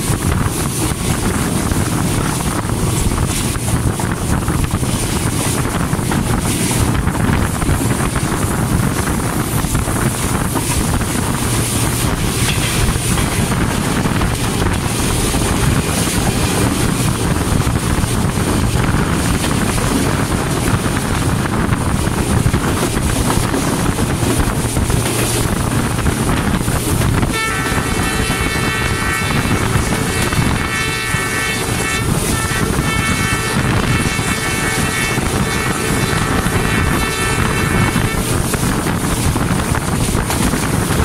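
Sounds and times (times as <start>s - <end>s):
train rumbling: 0.0s - 41.0s
wind on microphone: 0.0s - 41.0s.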